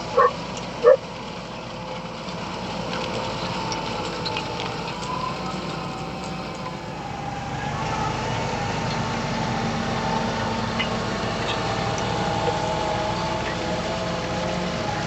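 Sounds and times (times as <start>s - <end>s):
tractor engine hum with whine: 0.0s - 15.0s.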